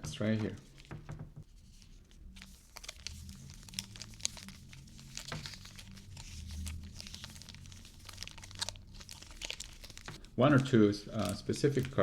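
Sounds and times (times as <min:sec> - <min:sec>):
foil wrappers crinkling: 0:02.3 - 0:12.0.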